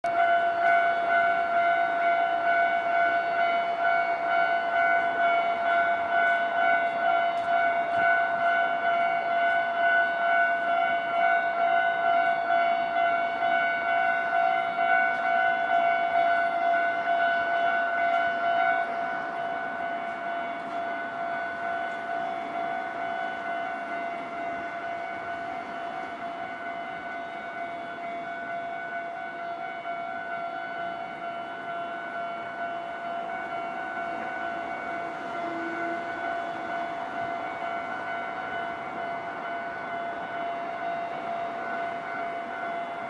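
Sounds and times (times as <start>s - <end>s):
level-crossing alarm bell ringing: 0.0s - 43.0s.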